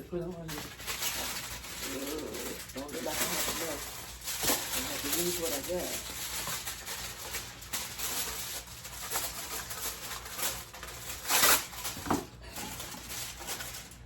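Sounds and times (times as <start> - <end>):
scratchy rustling kitchen handling: 0.0 - 14.0.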